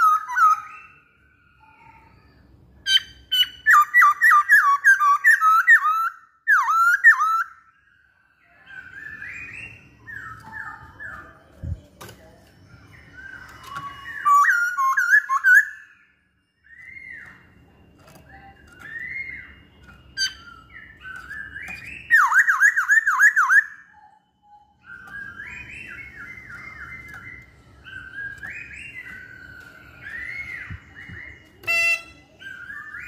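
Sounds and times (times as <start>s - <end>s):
bird singing whistled phrases: 0.0s - 33.0s.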